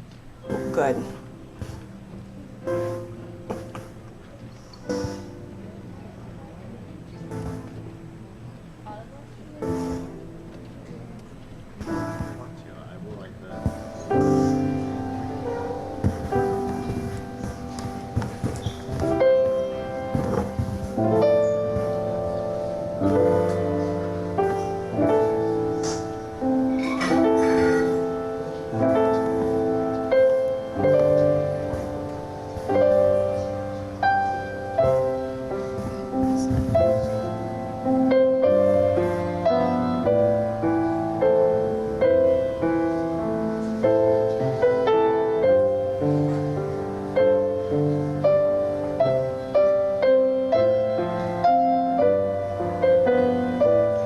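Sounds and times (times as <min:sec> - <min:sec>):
slow gentle piano piece: 0:00.0 - 0:54.0.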